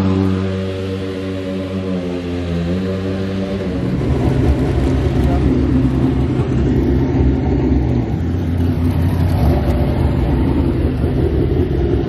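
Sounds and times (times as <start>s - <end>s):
race car engine at low revs: 0.0s - 12.0s.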